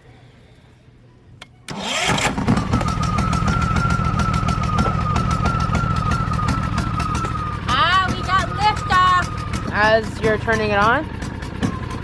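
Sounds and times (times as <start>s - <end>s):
generator engine running: 1.7s - 12.0s
steady whine: 2.3s - 12.0s.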